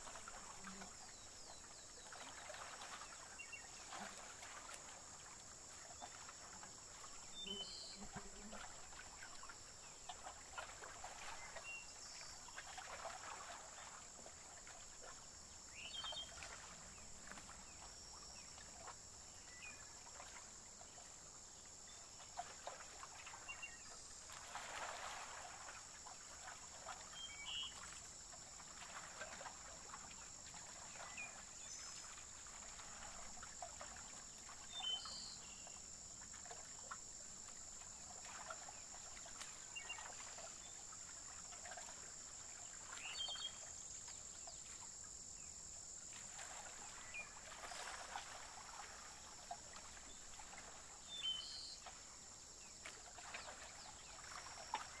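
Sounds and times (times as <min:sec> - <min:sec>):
water lapping: 0:00.0 - 0:55.0.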